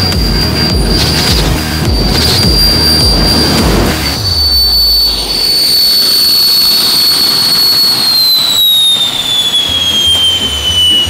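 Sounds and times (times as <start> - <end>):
jet engine rushing and whining: 0.0 - 11.0.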